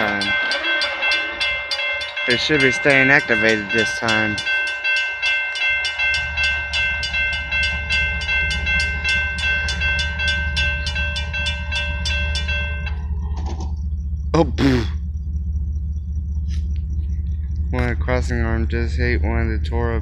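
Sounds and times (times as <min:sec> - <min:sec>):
railroad crossing bell ringing: 0:00.0 - 0:13.4, 0:17.2 - 0:20.0
low rumble: 0:00.0 - 0:20.0.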